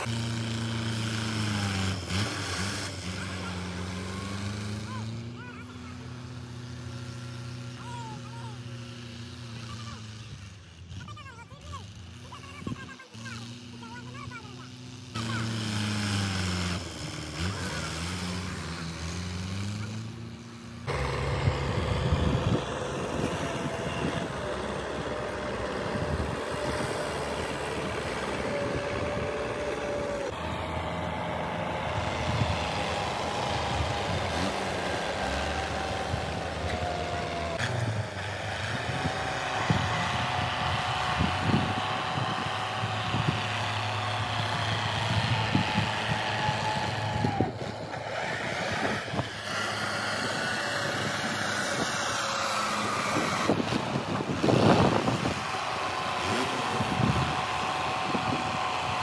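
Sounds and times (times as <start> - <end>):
tractor diesel engine: 0.0 - 59.0.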